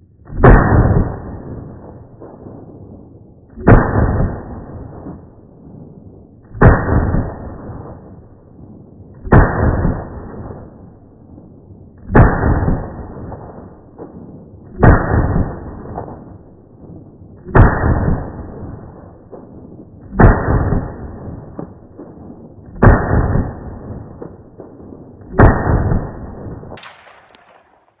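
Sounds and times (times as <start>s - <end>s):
slowed rifle shots booming: 0.0s - 28.0s.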